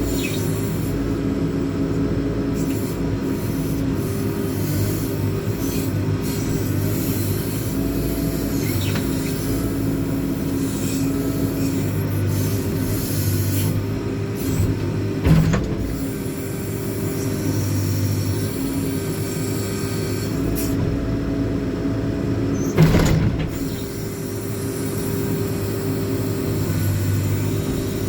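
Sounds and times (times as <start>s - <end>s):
backhoe diesel engine running: 0.0s - 28.0s.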